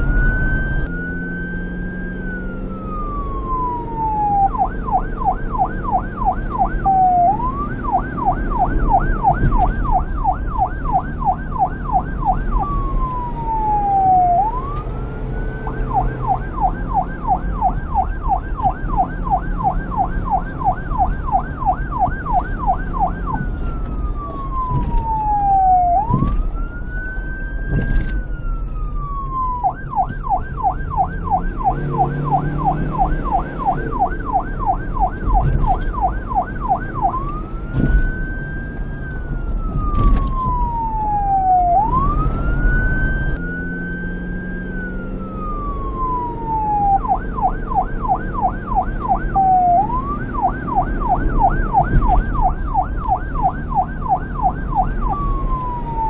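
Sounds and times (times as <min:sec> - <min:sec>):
police siren wail and yelp: 0:00.0 - 0:56.0.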